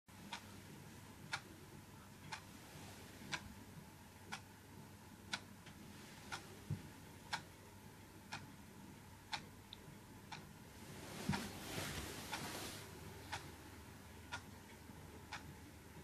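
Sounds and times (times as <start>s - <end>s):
clock ticking: 0.2s - 2.6s, 3.2s - 16.0s.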